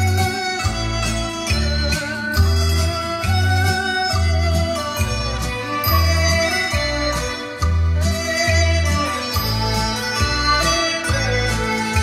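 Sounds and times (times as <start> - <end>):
recorded music with strong bass: 0.0 - 12.0.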